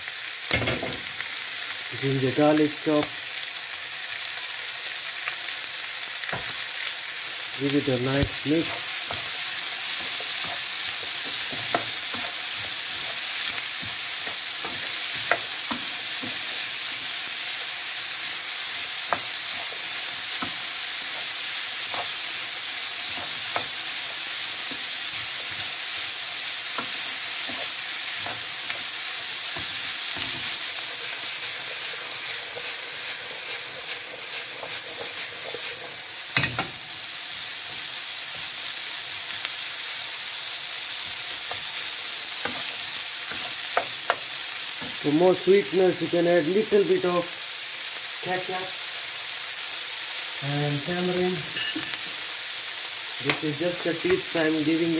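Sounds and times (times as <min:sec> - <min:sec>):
food sizzling in oil: 0:00.0 - 0:54.9.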